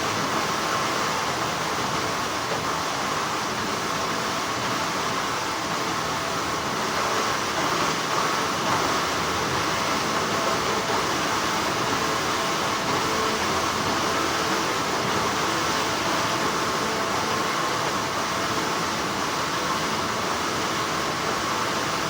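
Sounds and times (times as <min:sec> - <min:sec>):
factory machinery humming: 0:00.0 - 0:22.0.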